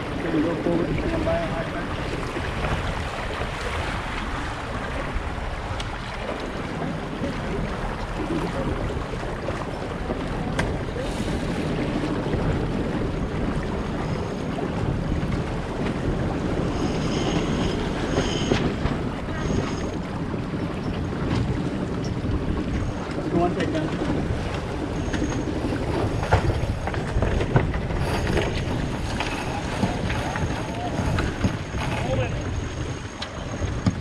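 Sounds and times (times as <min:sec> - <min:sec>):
water rushing along hull: 0:00.0 - 0:34.0
wind buffeting microphone: 0:00.0 - 0:34.0.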